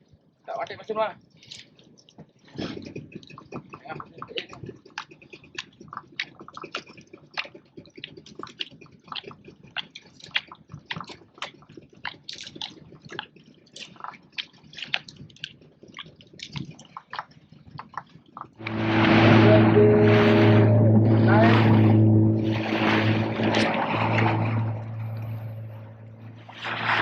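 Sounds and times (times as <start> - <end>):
water lapping against boat hull: 0.0 - 27.0.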